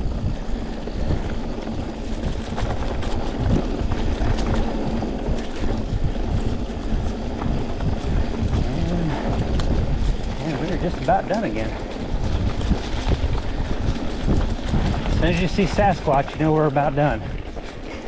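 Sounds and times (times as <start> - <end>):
bike clicks and rattles: 0.0 - 18.0
bike rolling on dirt trail: 0.0 - 18.0
wind buffeting microphone: 0.0 - 18.0.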